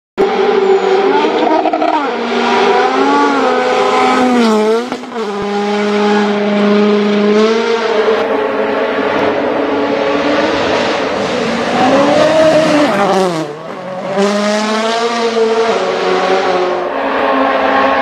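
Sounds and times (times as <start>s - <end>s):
rally car engine revving hard: 0.2s - 18.0s.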